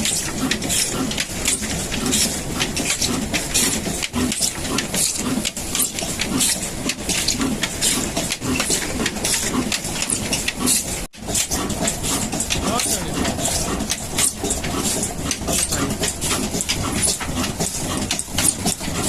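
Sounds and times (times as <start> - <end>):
diesel engine thumping and clattering: 0.0 - 19.0.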